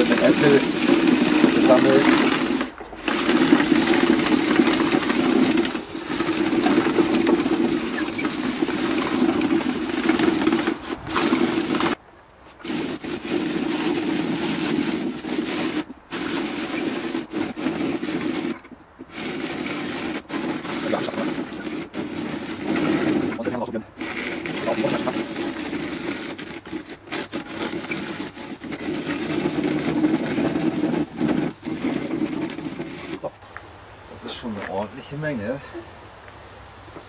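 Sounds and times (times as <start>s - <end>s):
hand-cranked shredder grinding apples: 0.0s - 33.3s.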